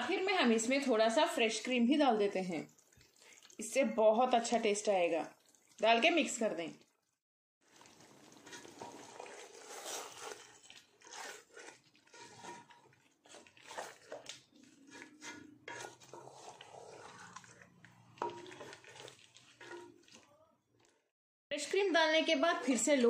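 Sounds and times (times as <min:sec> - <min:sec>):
spatula stirring in a pot: 0:02.3 - 0:06.2, 0:07.6 - 0:23.0.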